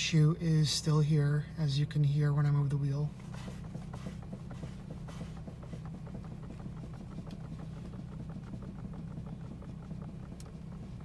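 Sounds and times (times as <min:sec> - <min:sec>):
car engine idling: 0:00.0 - 0:11.0
steering making rapid short clicks: 0:01.7 - 0:11.0.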